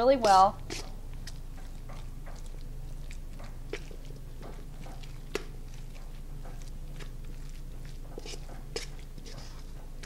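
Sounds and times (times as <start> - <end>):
wet squelching of stirred mix: 0.0 - 10.0.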